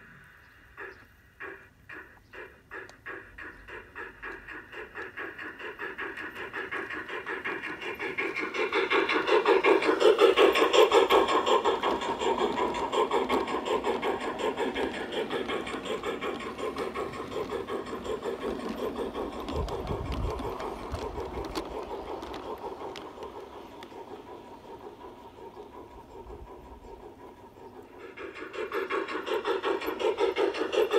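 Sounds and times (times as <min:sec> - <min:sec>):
model steam locomotive chuffing: 0:00.0 - 0:30.9.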